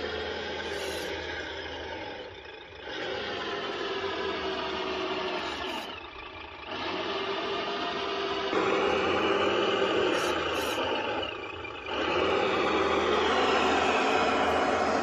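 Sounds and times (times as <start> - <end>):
toy vehicle mechanical whir: 0.0 - 15.0.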